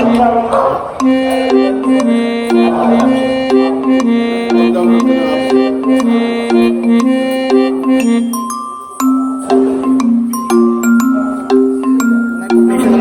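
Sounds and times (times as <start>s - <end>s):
instrumental music with steady beat: 0.0s - 13.0s.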